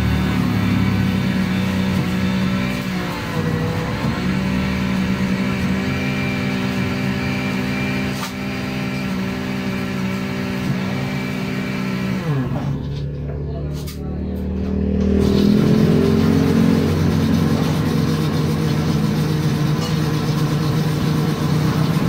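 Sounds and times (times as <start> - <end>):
vehicle engine running: 0.0 - 9.5, 10.8 - 22.0.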